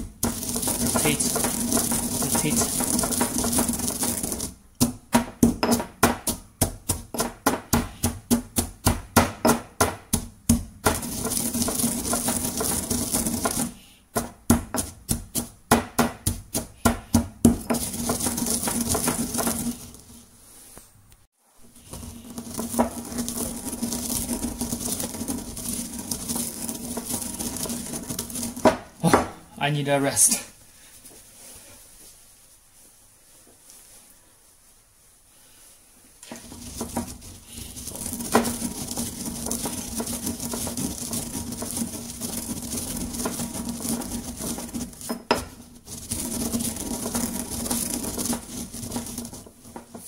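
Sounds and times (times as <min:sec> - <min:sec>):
pestle pounding strikes: 0:00.0 - 0:19.9, 0:22.4 - 0:29.5, 0:36.2 - 0:50.0
pestle scraping coffee beans: 0:00.0 - 0:20.3, 0:21.6 - 0:29.4, 0:36.2 - 0:50.0.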